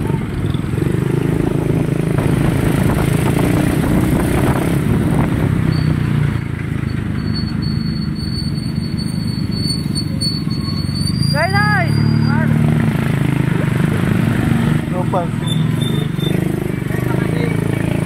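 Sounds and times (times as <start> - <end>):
motorcycle engine running: 0.0 - 10.9, 12.2 - 18.0
road traffic: 0.0 - 18.0.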